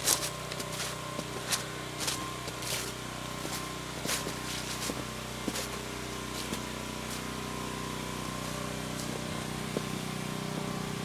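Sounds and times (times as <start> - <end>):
footsteps crunching in snow: 0.0 - 10.0
engine running with high whine: 0.0 - 11.0.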